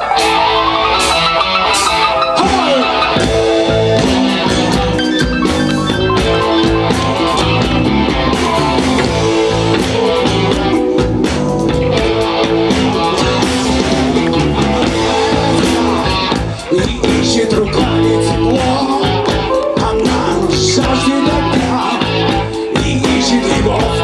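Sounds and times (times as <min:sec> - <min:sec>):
drum kit: 0:00.0 - 0:24.0
electric guitars: 0:00.0 - 0:24.0
keyboards: 0:00.0 - 0:24.0.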